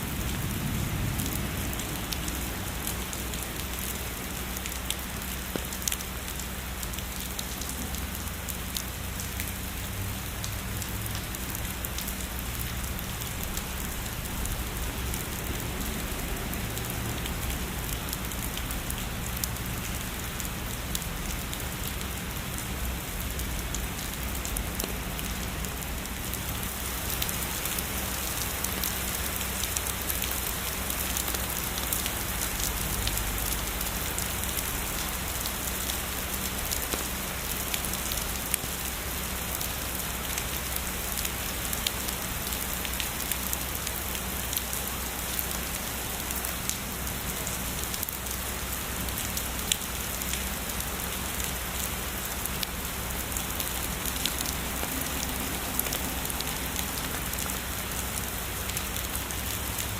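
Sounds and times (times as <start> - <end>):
heavy rain pouring: 0.0 - 59.9
raindrops ticking on a surface: 0.0 - 59.9.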